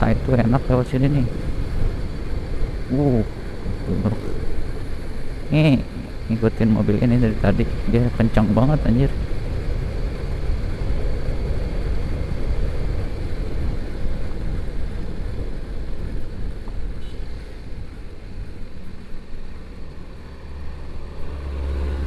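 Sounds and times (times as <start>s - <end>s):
wind buffeting microphone: 0.0s - 21.4s
steady low hum: 0.0s - 22.0s.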